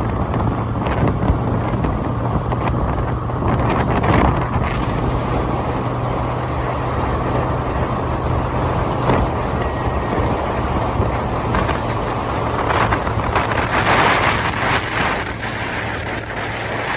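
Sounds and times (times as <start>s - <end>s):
motorcycle engine humming: 0.0s - 16.9s
wind rushing over microphone: 0.0s - 16.9s.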